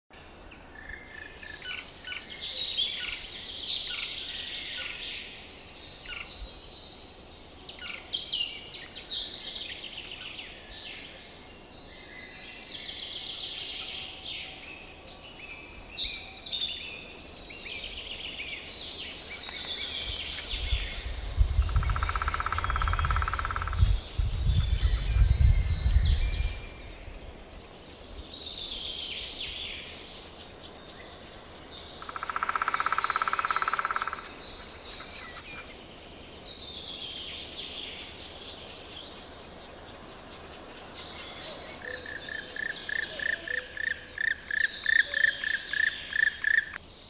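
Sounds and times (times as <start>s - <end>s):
small songbirds singing: 0.2s - 47.0s.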